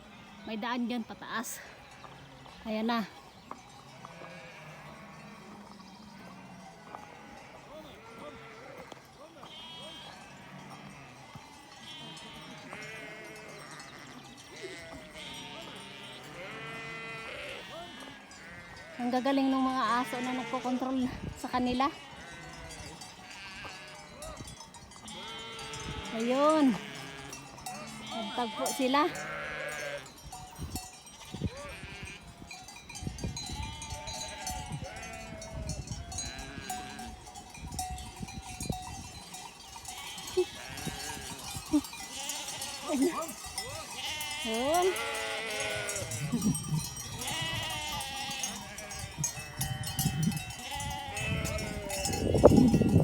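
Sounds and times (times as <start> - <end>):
sheep bleating: 3.9 - 24.3, 25.0 - 30.1, 31.2 - 32.5, 33.5 - 37.2, 39.8 - 52.9.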